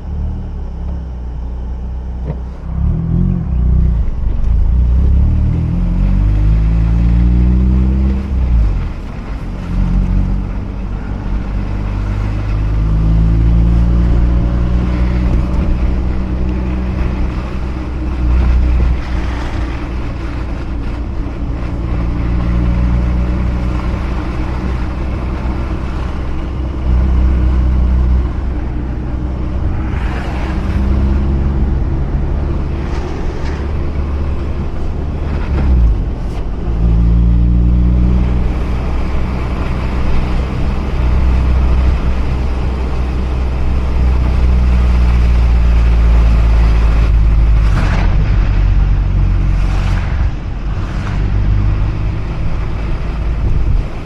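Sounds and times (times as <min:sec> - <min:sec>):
tyre and road noise: 0:00.0 - 0:54.0
rotary engine accelerating: 0:02.2 - 0:54.0.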